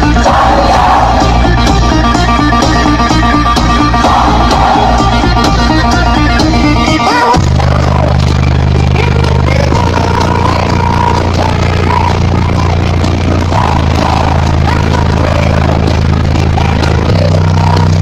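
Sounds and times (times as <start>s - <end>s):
loud bass-heavy music: 0.0s - 18.0s.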